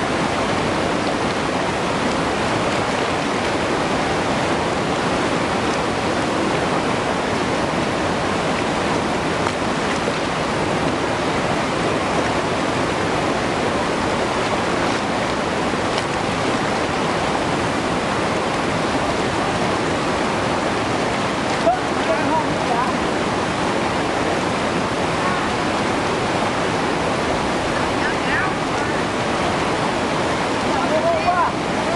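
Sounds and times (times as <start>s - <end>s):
whitewater rapids rushing: 0.0s - 31.9s.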